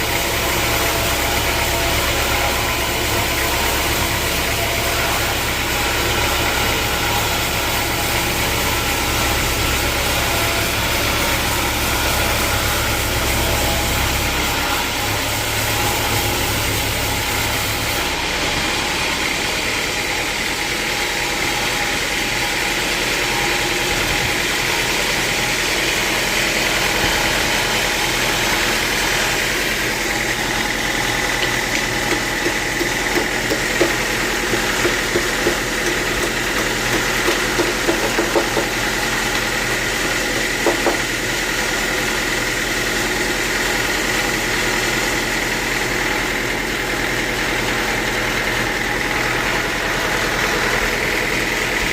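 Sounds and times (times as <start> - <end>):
sawmill machinery drone and whine: 0.0 - 51.9.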